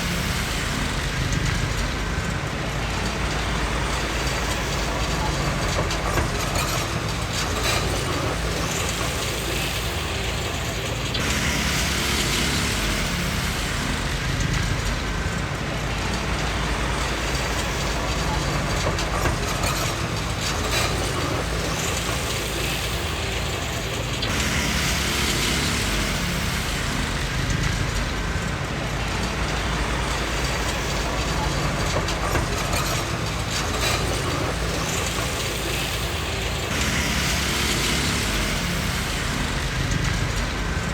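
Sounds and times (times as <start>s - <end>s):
bulldozer diesel engine running: 0.0s - 40.9s
steel tracks clanking and squeaking: 0.0s - 40.9s.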